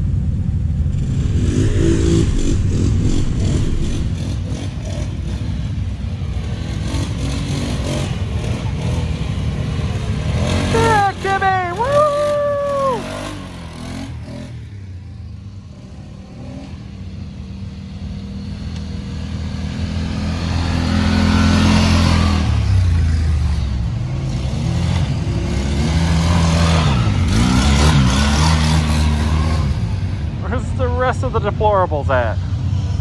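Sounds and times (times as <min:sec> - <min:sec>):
atv engines revving: 0:00.0 - 0:33.0.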